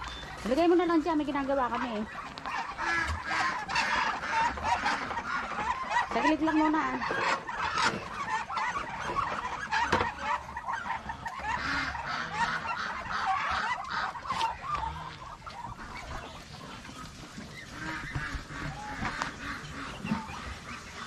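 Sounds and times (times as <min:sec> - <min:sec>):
ducks and turkeys calling: 0:00.0 - 0:21.0.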